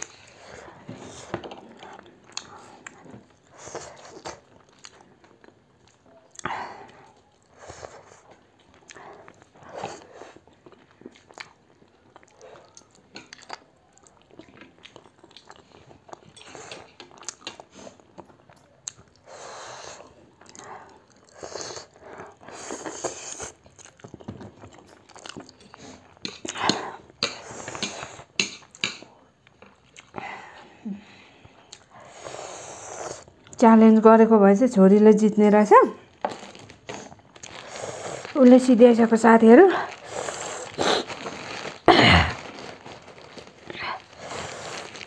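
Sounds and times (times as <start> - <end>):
slurping and chewing noodles: 0.0 - 33.6, 36.1 - 38.6, 39.7 - 45.0.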